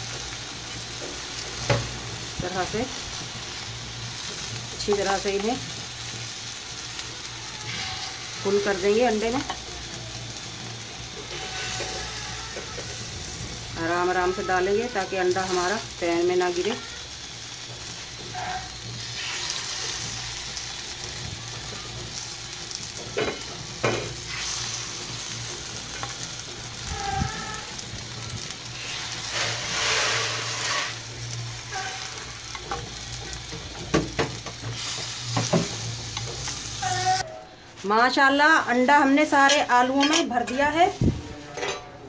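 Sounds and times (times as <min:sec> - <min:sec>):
egg sizzling in hot oil: 0:00.0 - 0:37.3.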